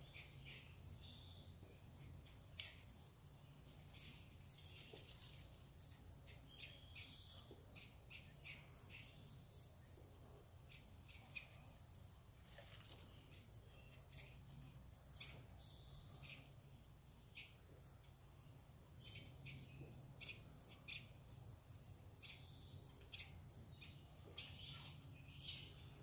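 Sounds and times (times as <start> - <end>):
squirrels chirping: 0.0 - 12.4, 13.1 - 26.0.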